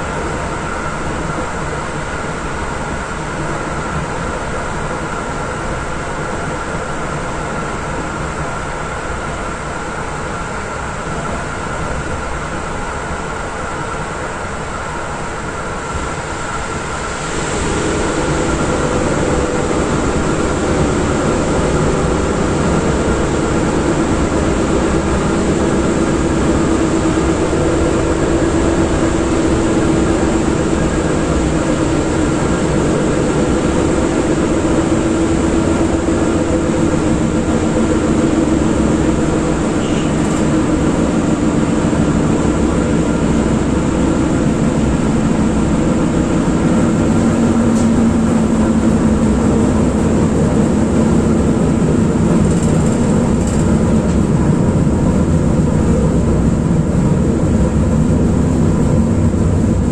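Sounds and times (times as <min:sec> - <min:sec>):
traction motors humming: 0:00.0 - 0:59.9
wheels rumbling on rail: 0:00.0 - 0:59.9.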